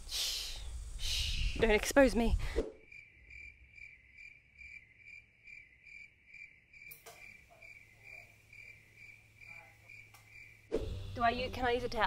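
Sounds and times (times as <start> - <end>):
faint cricket chirping: 0.0 - 12.0.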